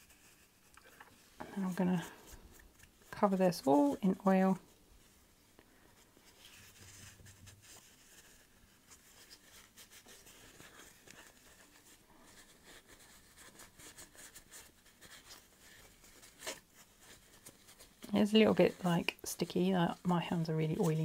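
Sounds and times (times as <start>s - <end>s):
fabric rubbing on metal: 0.0s - 21.0s.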